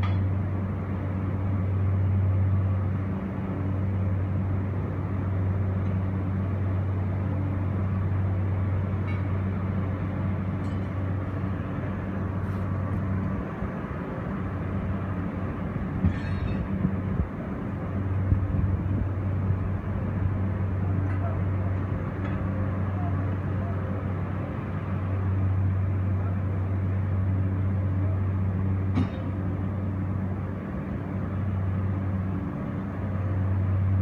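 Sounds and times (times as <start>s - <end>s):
low machine hum: 0.0s - 34.0s
outdoor background rush: 0.0s - 34.0s.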